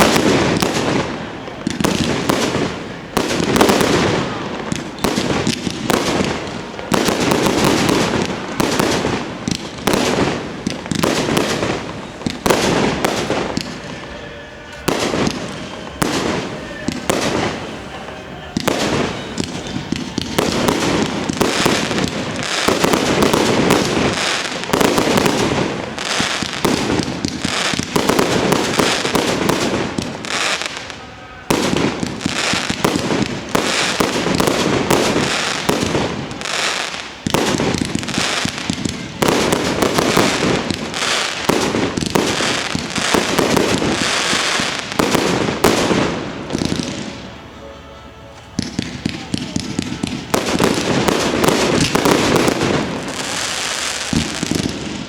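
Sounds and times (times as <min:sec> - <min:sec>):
fireworks bursts and crackling: 0:00.0 - 0:55.0.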